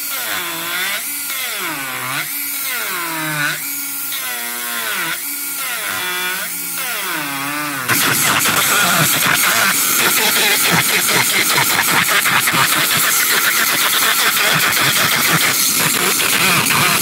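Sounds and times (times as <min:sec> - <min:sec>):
harsh grinding: 0:00.0 - 0:17.0
rotary tool carving wood: 0:00.0 - 0:17.0.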